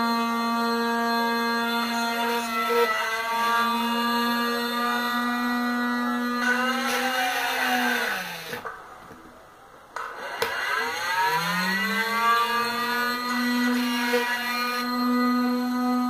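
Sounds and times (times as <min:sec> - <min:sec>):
small motor whining: 0:00.0 - 0:08.7, 0:10.2 - 0:16.0.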